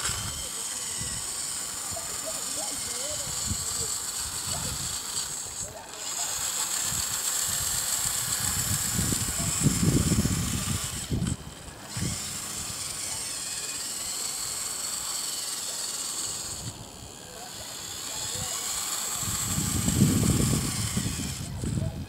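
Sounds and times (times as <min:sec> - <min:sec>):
toy electric motor whining: 0:00.0 - 0:22.0.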